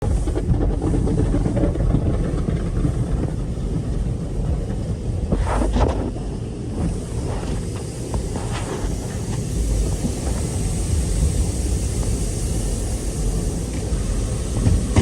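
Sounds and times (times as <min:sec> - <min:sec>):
car wash machinery rumble: 0:00.0 - 0:15.0.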